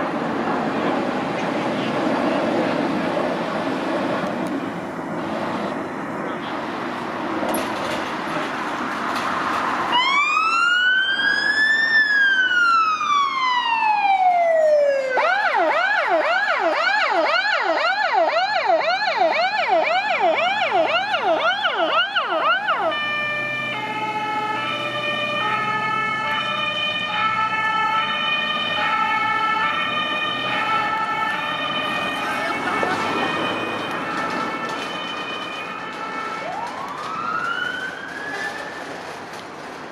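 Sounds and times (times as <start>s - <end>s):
emergency vehicle siren: 0.0s - 39.9s.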